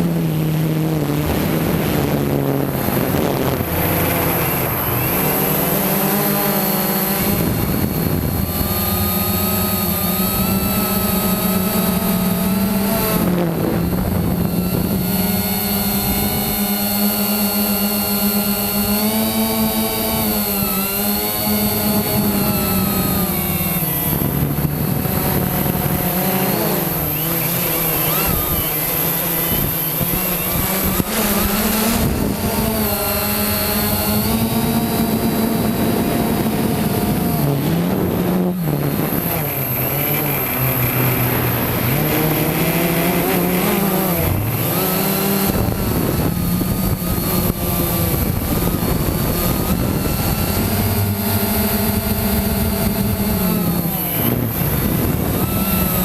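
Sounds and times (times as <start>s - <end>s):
drone motors buzzing: 0.0s - 56.0s
steady high whine: 0.0s - 56.0s.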